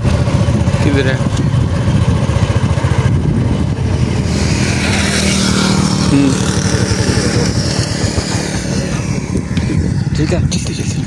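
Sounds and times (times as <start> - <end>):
motorcycle engine chugging: 0.0 - 11.0
wind hissing over microphone: 0.0 - 11.0.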